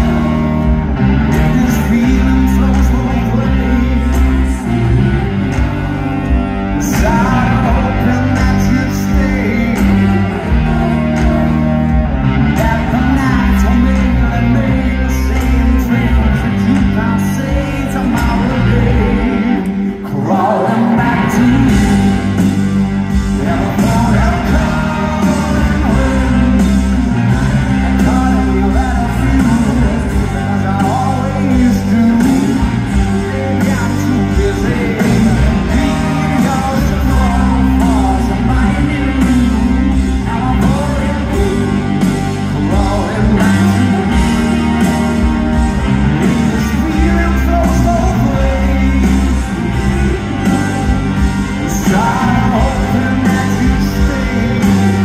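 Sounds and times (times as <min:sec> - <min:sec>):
live rock band playing: 0:00.0 - 0:55.0
person singing lead vocal: 0:00.0 - 0:55.0.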